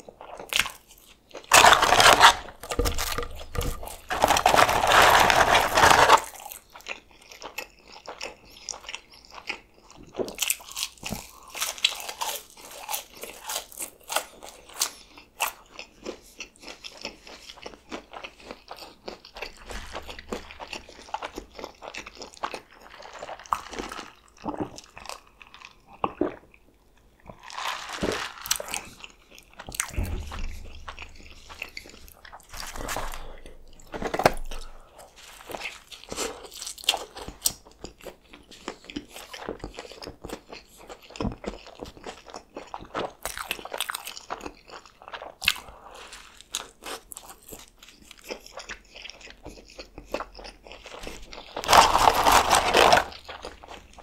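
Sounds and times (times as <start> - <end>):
chewing crunchy french fries: 0.0 - 54.0.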